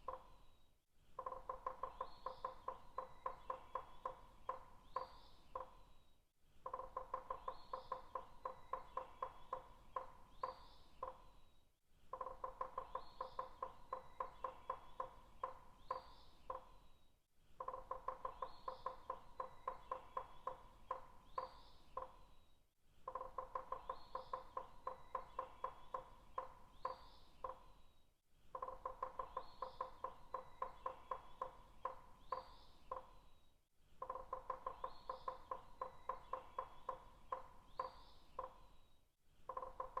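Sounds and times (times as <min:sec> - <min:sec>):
woodpecker tapping on wood: 0:00.0 - 0:00.4, 0:01.2 - 0:05.8, 0:06.6 - 0:11.3, 0:12.1 - 0:16.8, 0:17.6 - 0:22.3, 0:23.0 - 0:27.7, 0:28.5 - 0:33.2, 0:34.0 - 0:38.7, 0:39.5 - 0:40.0
bird chirping: 0:00.0 - 0:40.0.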